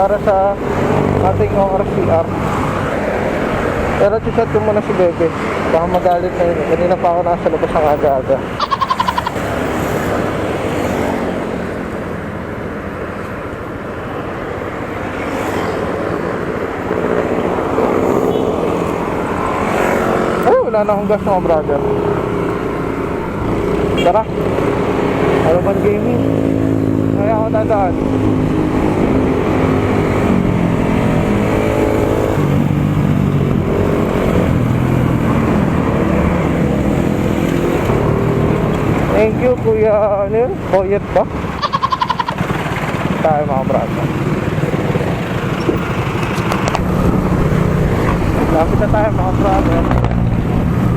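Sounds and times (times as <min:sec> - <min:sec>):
road traffic rumble: 0:00.0 - 0:50.9
vehicle engine: 0:00.0 - 0:50.9.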